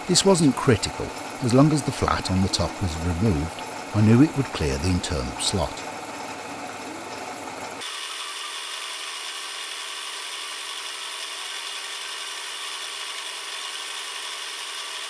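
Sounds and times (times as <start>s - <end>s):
milling machine cutting metal: 0.0s - 6.4s, 7.0s - 15.0s.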